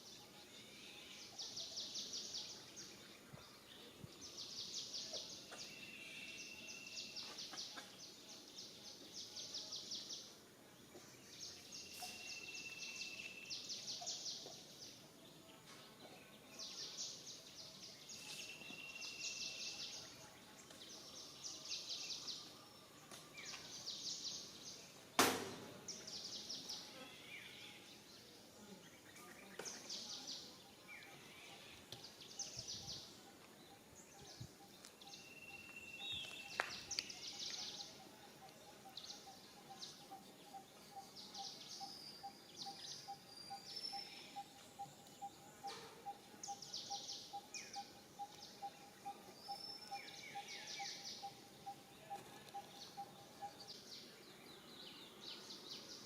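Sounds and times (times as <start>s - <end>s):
birds chirping: 10.9s - 56.0s.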